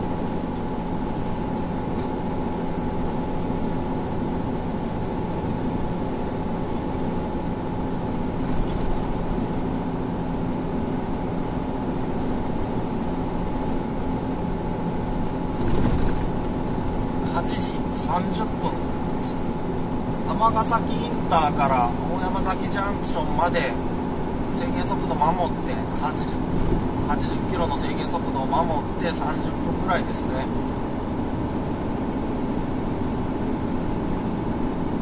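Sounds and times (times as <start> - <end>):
car road and engine noise: 0.0 - 35.0
faint high whine: 0.0 - 35.0.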